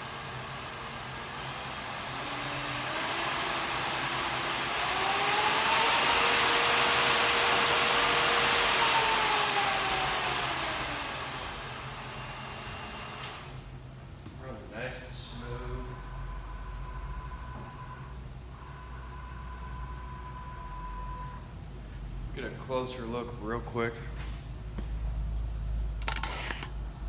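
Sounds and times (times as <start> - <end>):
spindle motor whine: 0.0 - 27.0
steady low hum: 0.0 - 27.0.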